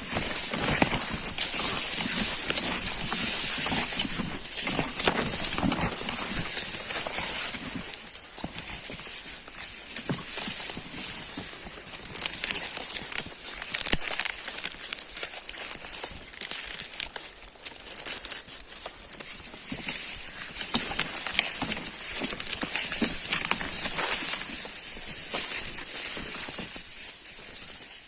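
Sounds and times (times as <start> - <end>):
dry leaves crunching: 0.0 - 28.0.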